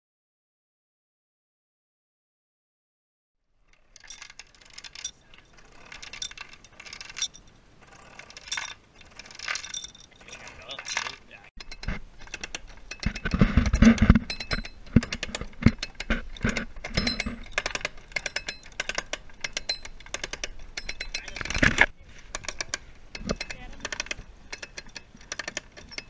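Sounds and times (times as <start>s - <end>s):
metallic clicking and clinking: 3.6s - 26.0s.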